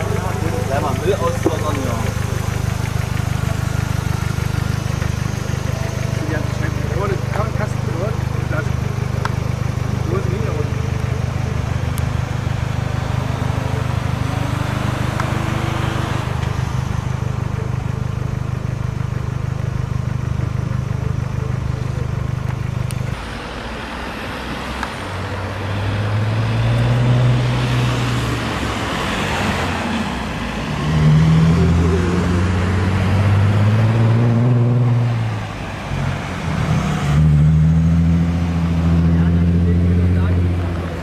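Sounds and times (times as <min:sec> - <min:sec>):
engine note rising and falling: 0:00.0 - 0:23.2, 0:24.4 - 0:41.0
car engine running: 0:00.0 - 0:26.9, 0:27.5 - 0:41.0.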